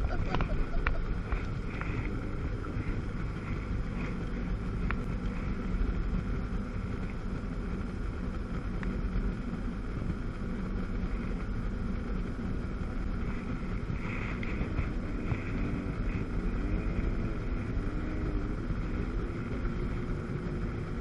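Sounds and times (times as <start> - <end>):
jet ski engine drone: 0.0 - 21.0
wind buffeting microphone: 0.0 - 21.0.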